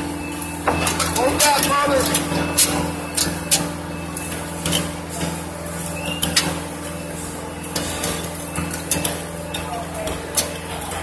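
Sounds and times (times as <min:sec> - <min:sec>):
crane engine running: 0:00.0 - 0:11.0.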